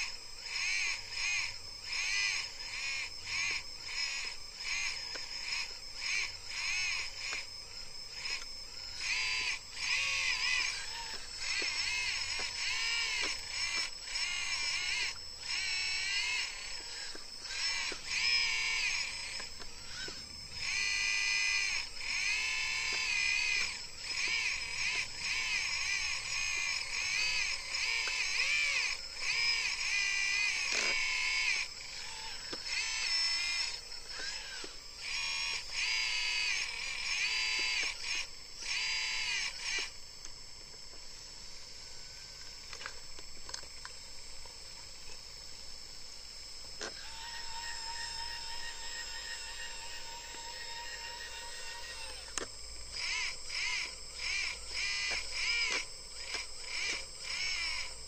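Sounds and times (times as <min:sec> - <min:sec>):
hydraulic pump whining: 0:00.0 - 0:58.0
steady high whine: 0:00.0 - 0:58.0.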